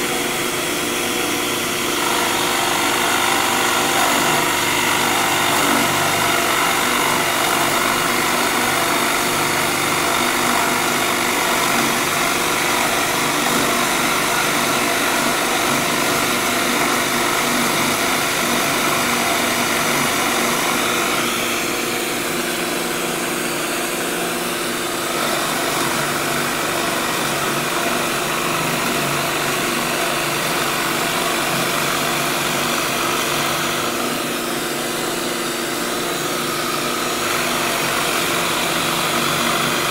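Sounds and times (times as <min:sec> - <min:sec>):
drill press running: 0:00.0 - 0:39.9
shop vac running: 0:00.0 - 0:39.9.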